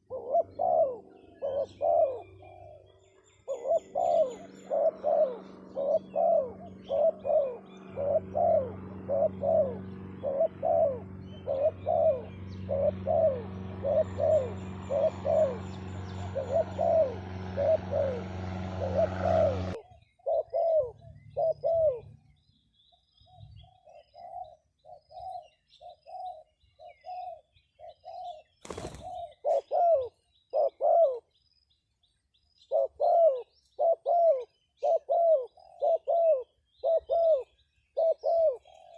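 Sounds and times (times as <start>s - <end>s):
bird calling: 0.0s - 31.4s, 32.6s - 38.9s.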